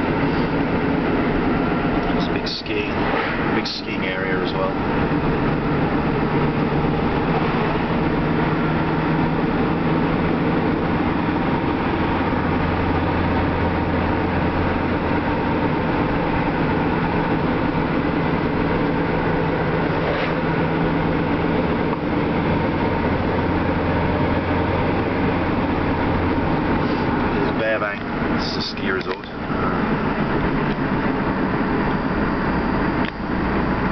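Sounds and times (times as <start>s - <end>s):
road noise: 0.0s - 33.9s
vehicle engine hum: 0.0s - 33.9s.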